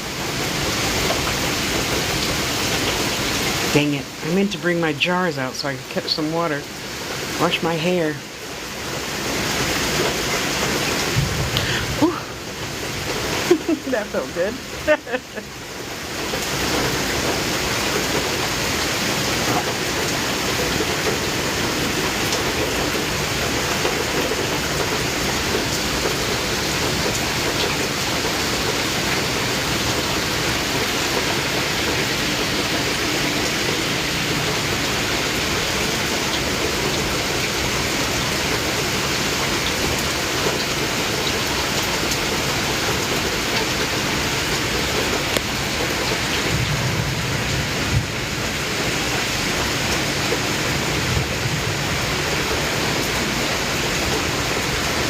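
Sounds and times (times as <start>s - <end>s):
heavy rain downpour: 0.0s - 55.0s.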